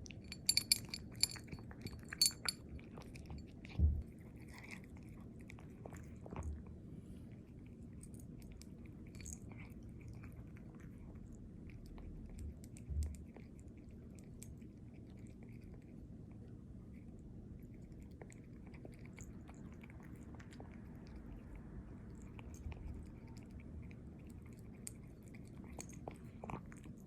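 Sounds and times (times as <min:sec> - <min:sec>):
cat chewing meat: 0:00.0 - 0:27.0.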